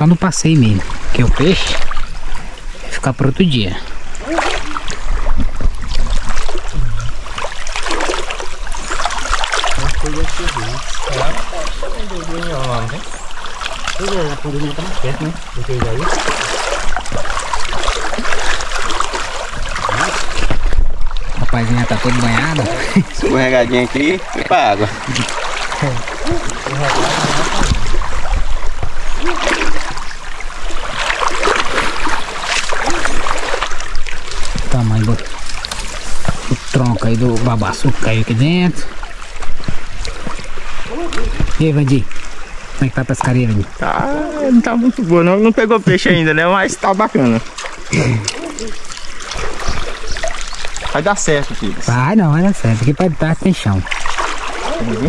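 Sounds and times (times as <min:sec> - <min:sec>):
river water splashing over rocks: 0:00.0 - 0:55.0.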